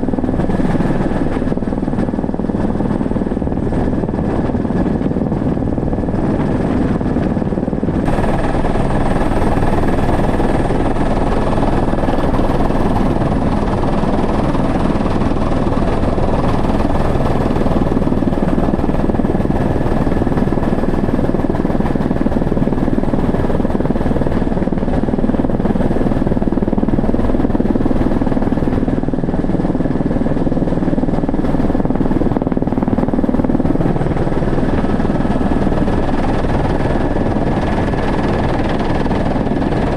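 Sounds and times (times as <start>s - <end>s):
helicopter rotor rumble: 0.0s - 39.9s.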